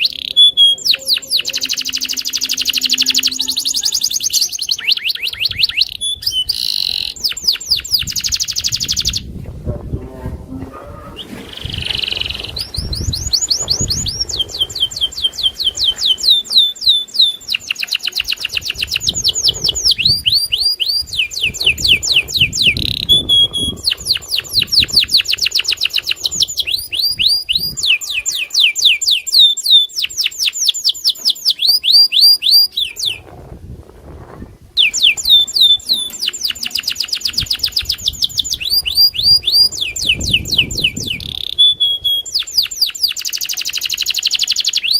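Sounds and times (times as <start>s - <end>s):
canary singing rapid trills: 0.0s - 9.3s, 11.2s - 33.3s, 34.8s - 44.9s.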